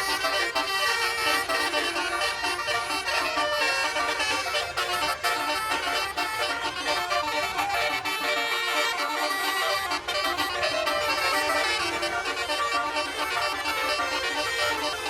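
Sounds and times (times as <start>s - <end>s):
multi-tone air horn playing a tune: 0.0s - 15.0s.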